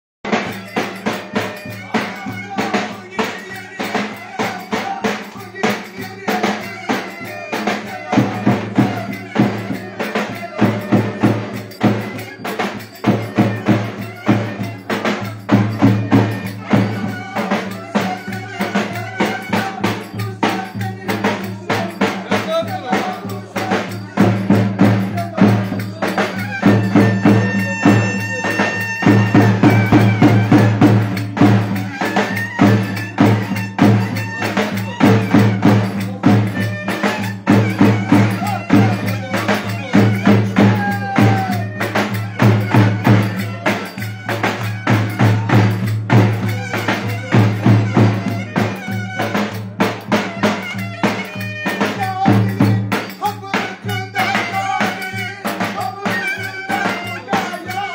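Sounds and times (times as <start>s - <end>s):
fast drum beat: 0.2s - 57.9s.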